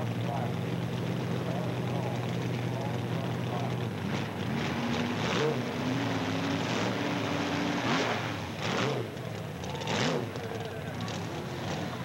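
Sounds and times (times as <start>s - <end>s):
race car engine running: 0.0s - 12.0s.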